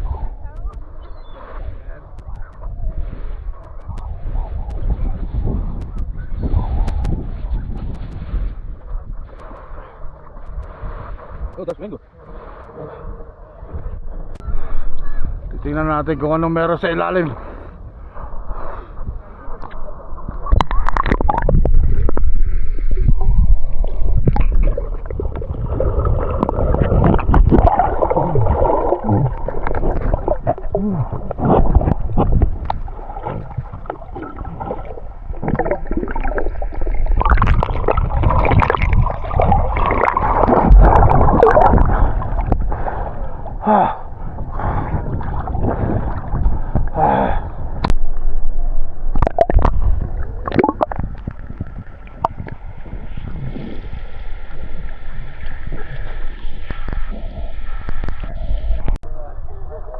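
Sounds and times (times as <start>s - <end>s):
muffled underwater gurgling: 0.0s - 16.3s, 17.1s - 59.9s.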